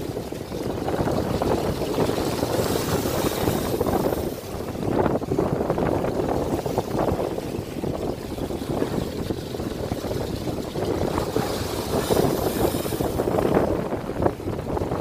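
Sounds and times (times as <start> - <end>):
sea water splashing on rocks: 0.0 - 14.9
wind rumbling on microphone: 0.0 - 15.0.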